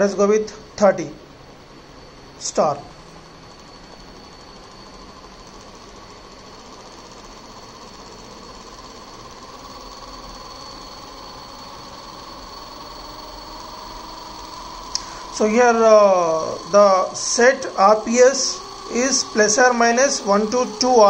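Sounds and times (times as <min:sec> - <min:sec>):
electric motor whirring hum: 0:00.0 - 0:21.0
high-pitched whine: 0:00.0 - 0:21.0.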